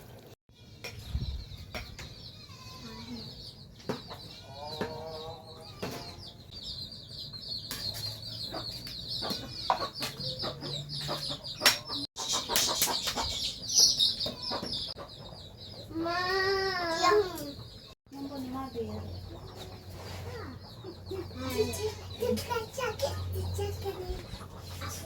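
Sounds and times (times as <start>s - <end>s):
chickens clucking: 3.2s - 25.0s.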